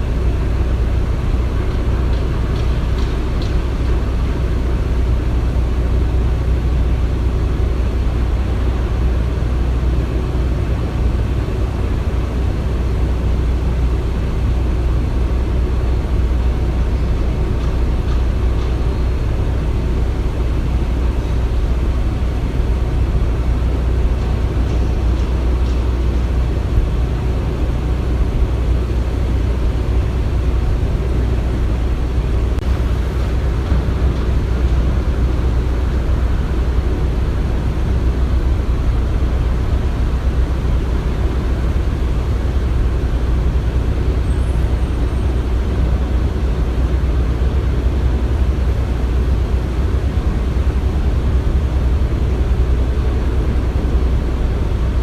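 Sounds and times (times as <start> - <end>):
deep machinery rumble: 0.0 - 55.0.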